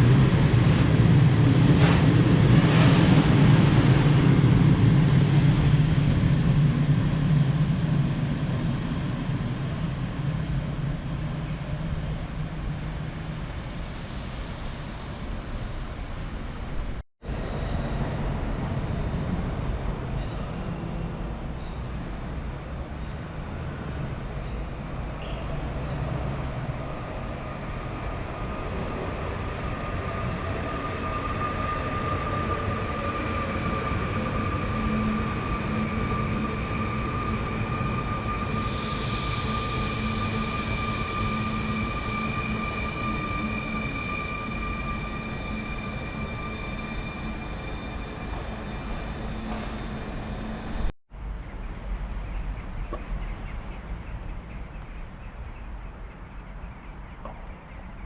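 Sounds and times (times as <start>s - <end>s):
electric train rumbling: 0.0s - 58.0s.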